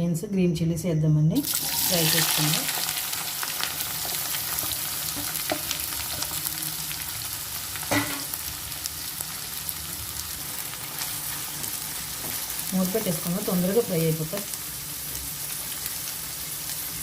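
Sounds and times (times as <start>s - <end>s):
onions sizzling in hot oil: 1.4s - 17.0s.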